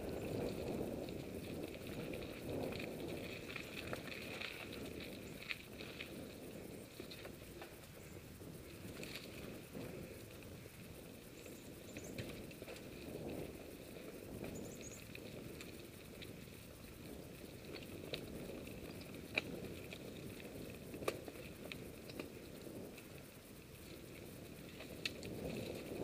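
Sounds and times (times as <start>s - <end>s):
bike rattling over bumps: 0.0s - 26.0s
tyre and wind rumble: 0.0s - 26.0s.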